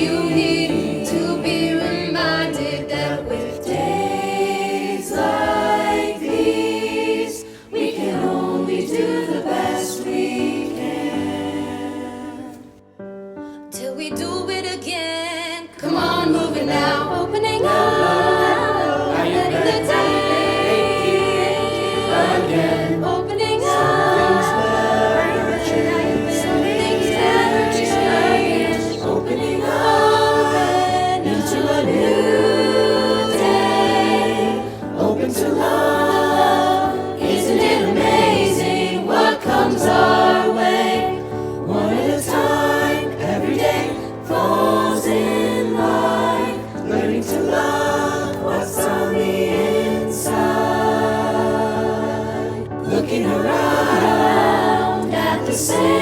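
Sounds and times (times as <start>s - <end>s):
chorus singing in harmony: 0.0s - 12.9s, 15.7s - 56.0s.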